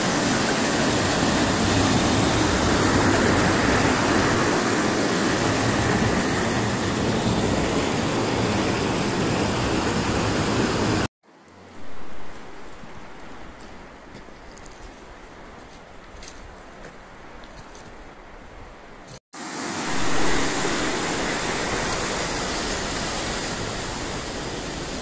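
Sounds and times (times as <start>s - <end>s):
mountain stream rushing: 0.0s - 17.4s, 19.1s - 25.0s.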